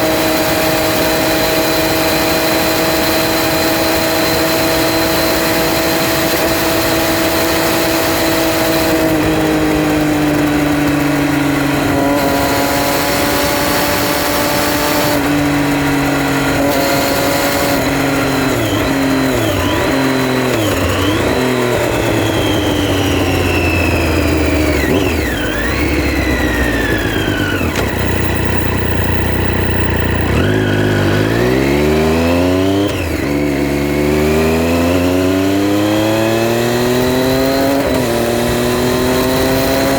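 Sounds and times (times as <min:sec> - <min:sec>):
gear changes: 0:00.0 - 0:39.9
motorcycle engine revving: 0:00.0 - 0:39.9.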